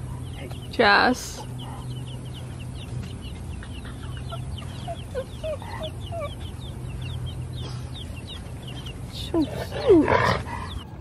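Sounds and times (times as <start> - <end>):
baby chicks peeping: 0.0 - 11.0
lower chirps: 0.0 - 11.0
steady low hum: 0.0 - 11.0.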